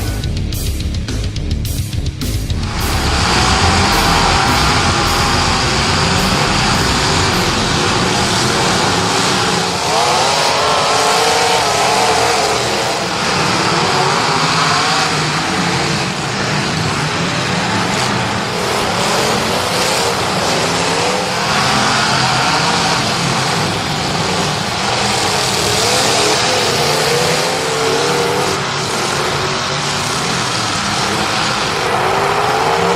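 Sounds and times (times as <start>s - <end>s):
car engines revving: 0.0s - 32.9s
dirt-track racing noise: 0.0s - 32.9s.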